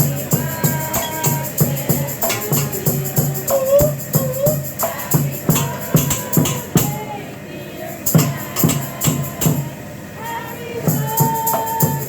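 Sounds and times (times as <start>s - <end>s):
fast percussive beat: 0.0s - 7.0s, 8.1s - 9.8s, 10.9s - 12.0s
wavering melodic voice: 0.0s - 12.0s.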